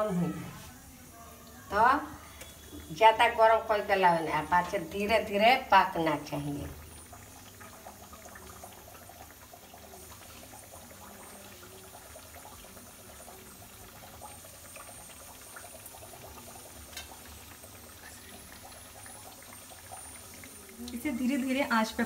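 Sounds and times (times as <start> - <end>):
dough frying in ghee: 0.0 - 22.0.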